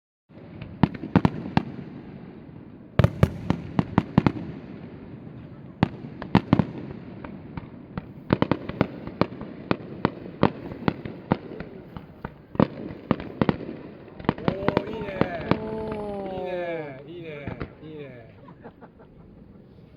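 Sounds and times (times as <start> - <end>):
fireworks bangs and cracks: 0.3 - 18.5.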